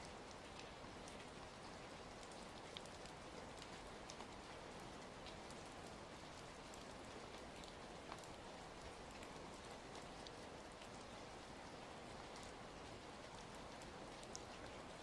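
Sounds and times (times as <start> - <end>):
faint fireplace crackles: 0.0 - 15.0
quiet steady rain: 0.0 - 15.0.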